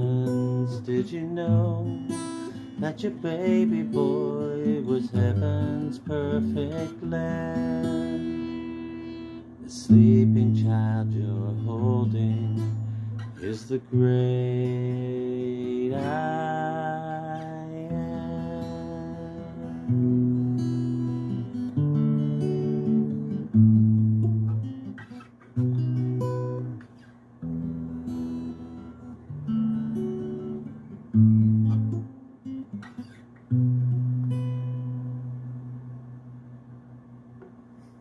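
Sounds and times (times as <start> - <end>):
acoustic guitar chords: 0.0 - 38.0.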